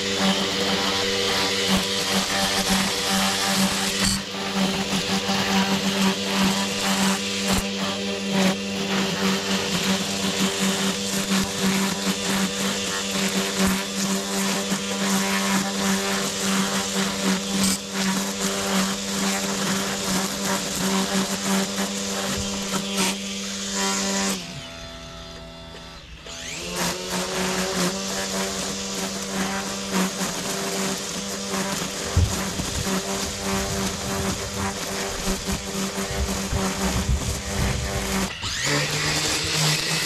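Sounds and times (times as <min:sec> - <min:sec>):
string trimmer running: 0:00.0 - 0:40.0
trimmer line cutting grass: 0:00.0 - 0:40.0.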